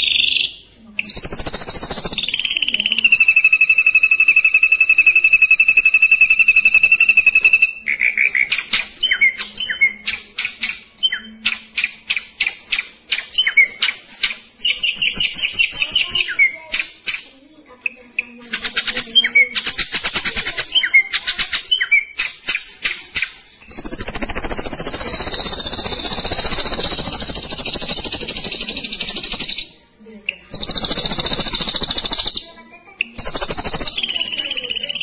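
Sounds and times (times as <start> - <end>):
bird singing trills and chirps: 0.0 - 35.0.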